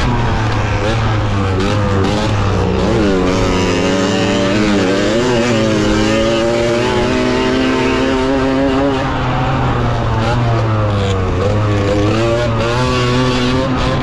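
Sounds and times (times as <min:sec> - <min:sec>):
motorcycle engine at full throttle: 0:00.0 - 0:14.0.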